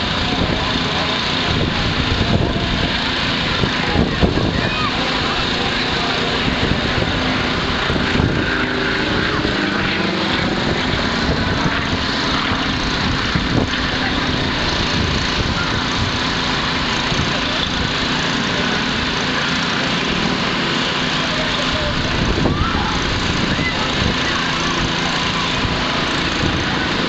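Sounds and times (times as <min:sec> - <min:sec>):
propeller aircraft engine overhead: 0:00.0 - 0:27.0.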